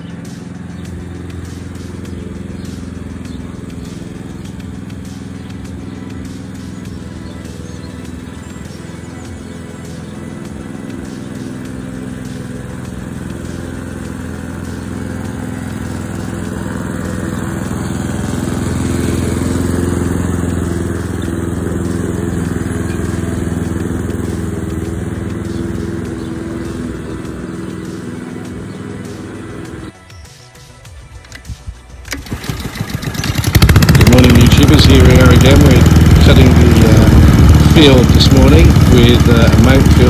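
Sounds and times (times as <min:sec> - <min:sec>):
lawn mower engine running: 0:00.0 - 0:30.0, 0:30.6 - 0:40.0.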